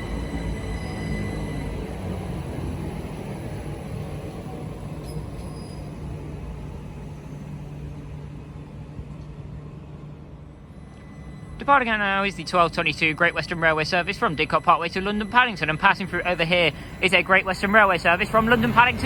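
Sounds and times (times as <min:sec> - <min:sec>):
electric train rumble: 0:00.0 - 0:19.0.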